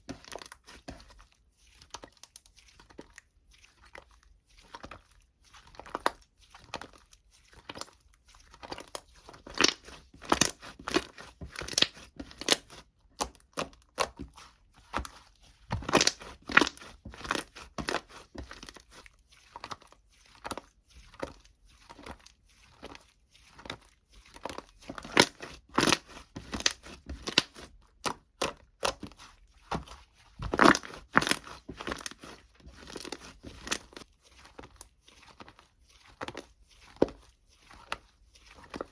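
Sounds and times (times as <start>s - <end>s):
crinkling and crackling: 0.0s - 38.9s.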